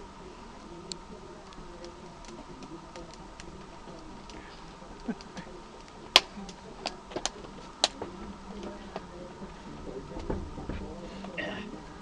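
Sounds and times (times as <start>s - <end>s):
firewood crackling and popping: 0.0s - 12.0s.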